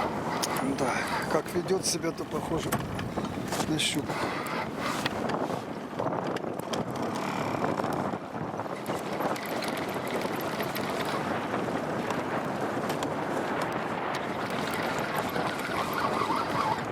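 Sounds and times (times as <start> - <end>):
choppy water: 0.0 - 16.9
strong wind: 0.0 - 16.9.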